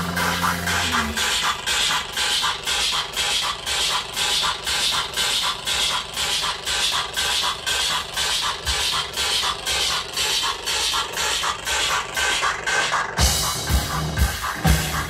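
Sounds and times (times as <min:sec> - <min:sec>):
industrial electronic music: 0:00.0 - 0:15.0.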